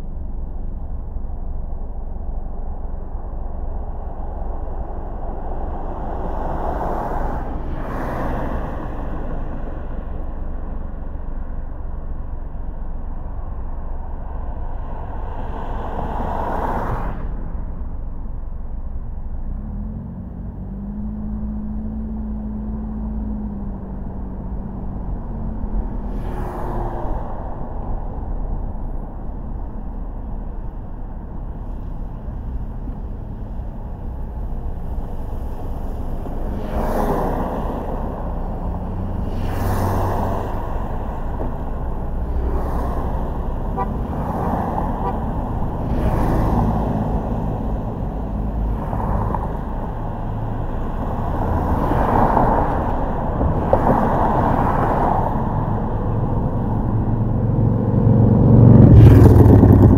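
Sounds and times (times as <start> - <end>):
car engine and tyre rumble: 0.0 - 59.9
vehicles swishing past: 3.4 - 11.3, 19.5 - 59.9.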